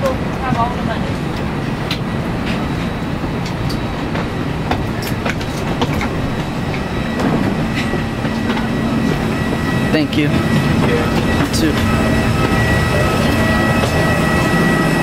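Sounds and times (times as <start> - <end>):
aircraft cabin hum: 0.0 - 15.0
passengers and bags clicking and knocking: 0.0 - 15.0.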